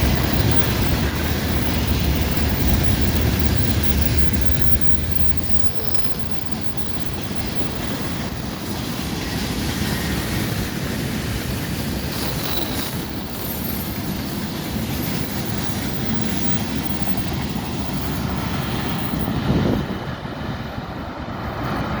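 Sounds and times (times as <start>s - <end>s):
train wagons clattering: 0.0s - 22.0s
train wheels rumbling on track: 0.0s - 22.0s.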